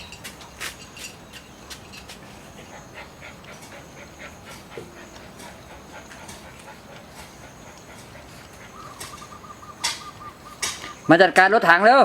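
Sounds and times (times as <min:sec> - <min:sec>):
dogs making small sounds: 0:00.6 - 0:11.2.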